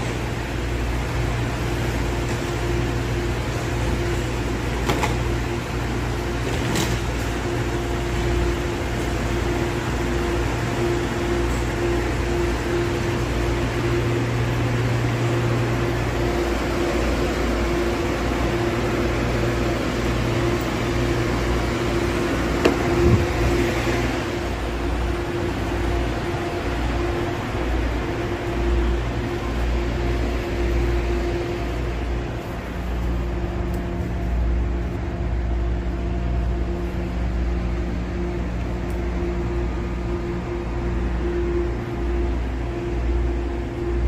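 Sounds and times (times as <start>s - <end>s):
mechanical hum: 0.0s - 44.0s
train wheels rumbling: 0.0s - 44.0s.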